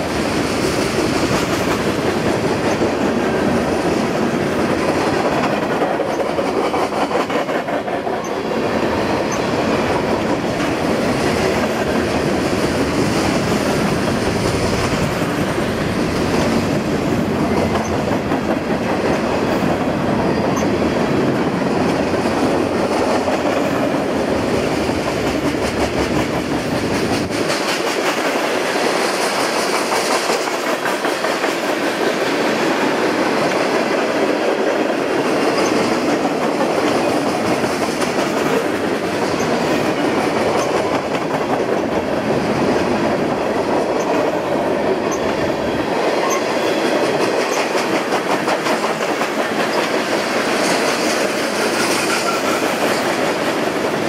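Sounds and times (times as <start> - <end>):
freight cars rumbling on rails: 0.0 - 54.0.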